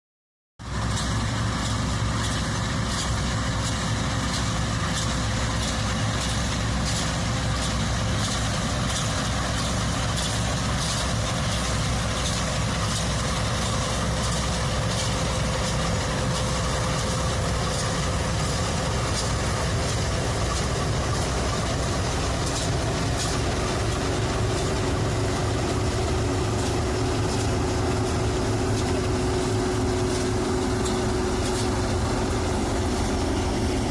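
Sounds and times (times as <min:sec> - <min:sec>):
low diesel engine drone: 0:00.6 - 0:33.9
steady machine whine: 0:00.7 - 0:33.9.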